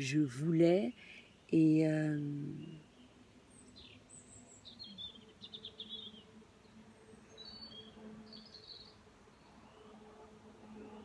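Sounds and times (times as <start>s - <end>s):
high chirping birdsong: 0.6s - 10.0s.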